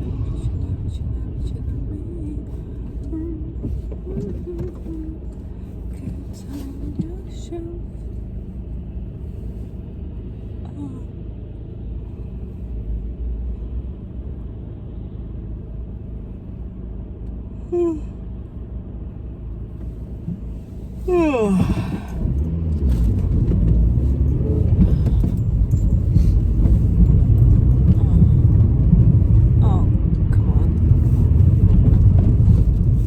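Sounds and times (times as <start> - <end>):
car road rumble: 0.0 - 33.0.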